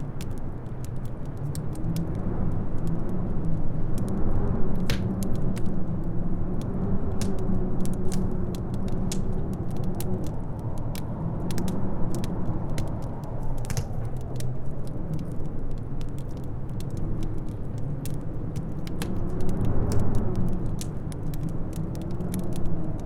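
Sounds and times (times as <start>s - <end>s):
fire popping and snapping: 0.0s - 23.0s
howling wind: 0.0s - 23.0s
wood fire crackling: 0.0s - 23.0s.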